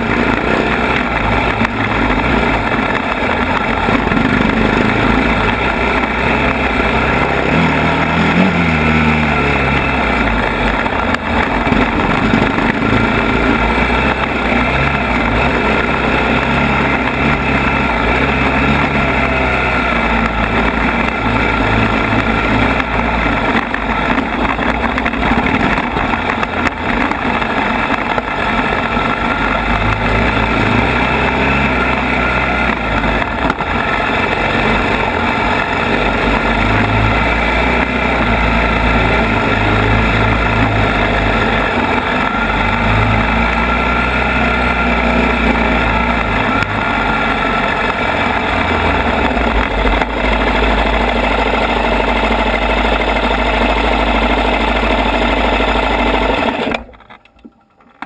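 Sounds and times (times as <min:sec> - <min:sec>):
steady rushing noise: 0:00.0 - 0:56.8
quad bike engine revving: 0:00.0 - 0:57.3.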